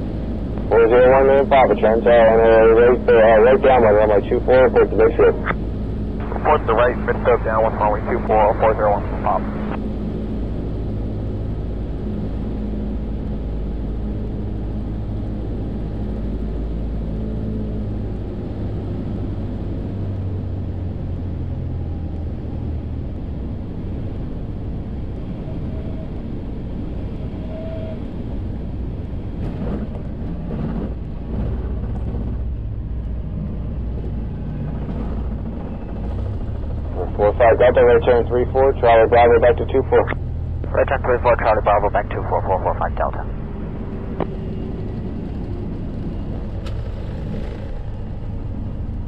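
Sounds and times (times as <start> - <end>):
airplane engine and propeller droning: 0.0 - 49.0.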